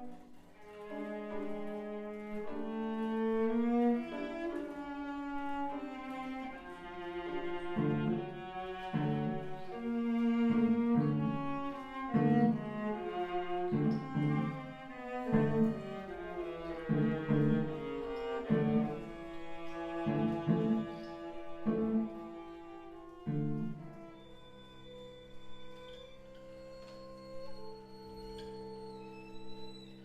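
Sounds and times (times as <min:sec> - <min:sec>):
low bowed string strokes: 0:01.0 - 0:28.9.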